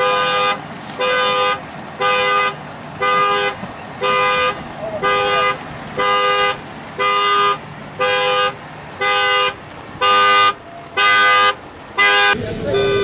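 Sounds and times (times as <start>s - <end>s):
two-tone car horn honking: 0.0s - 13.0s.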